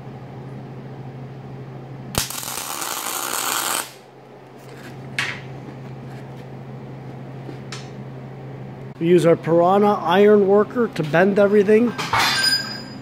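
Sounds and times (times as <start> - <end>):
machinery humming: 0.0 - 12.1.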